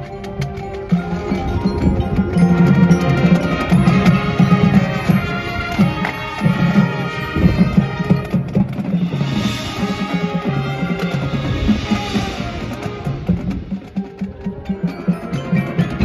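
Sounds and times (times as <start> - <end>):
marching band playing: 0.0 - 16.0
percussion strikes: 0.0 - 16.0.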